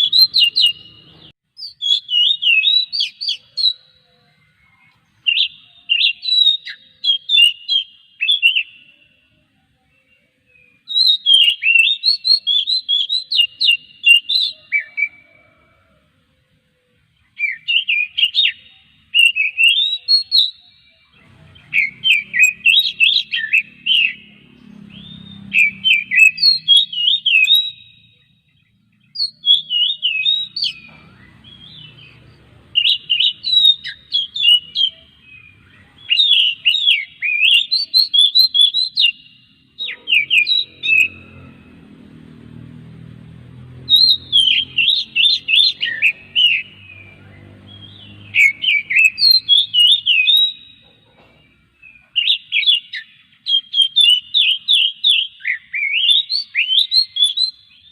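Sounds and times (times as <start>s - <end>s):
bird singing whistled phrases: 0.0s - 9.2s, 9.9s - 15.6s, 17.3s - 28.4s, 29.0s - 41.5s, 43.8s - 51.2s, 51.8s - 57.9s.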